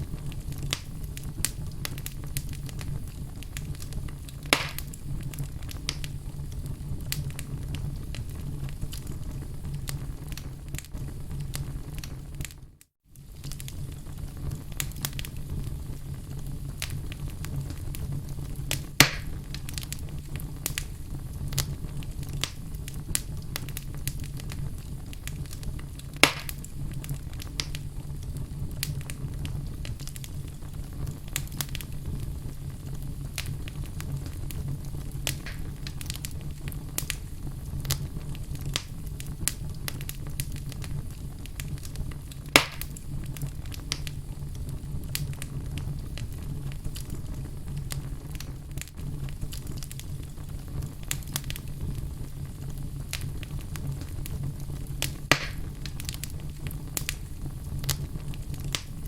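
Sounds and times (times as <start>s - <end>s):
sharp pops from fire: 0.0s - 59.0s
wood fire crackling: 0.0s - 59.0s.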